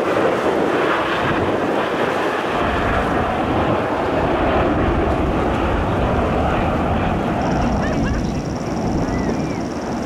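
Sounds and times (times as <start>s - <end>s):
jet engines rushing: 0.0s - 10.0s.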